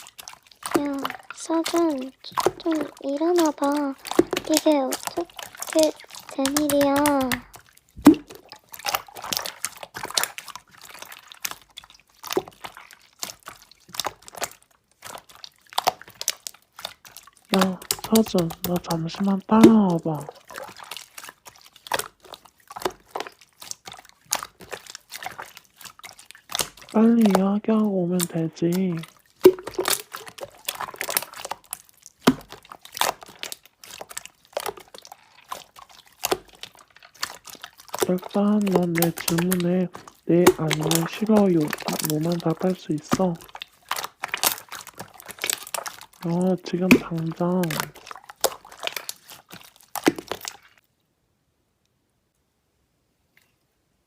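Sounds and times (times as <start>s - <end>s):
slime squished by hand: 0.0s - 50.8s.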